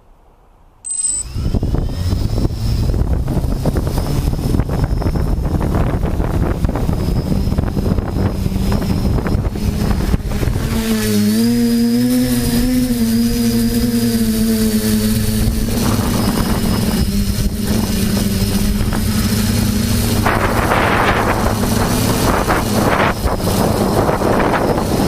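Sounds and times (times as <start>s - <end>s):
drone motors whining: 0.8s - 25.0s
wind noise rushes: 1.2s - 25.0s.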